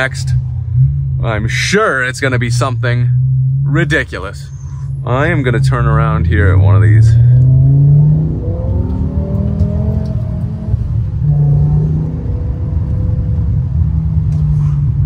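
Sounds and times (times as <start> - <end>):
car engine heard from inside: 0.0 - 15.0.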